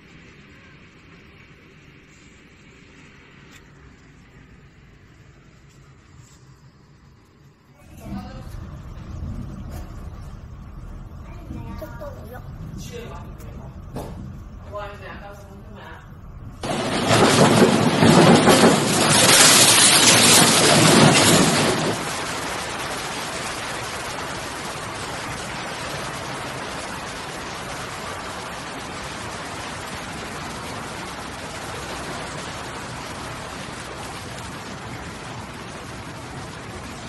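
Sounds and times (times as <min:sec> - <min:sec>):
wind and driving rain: 0:00.0 - 0:37.0.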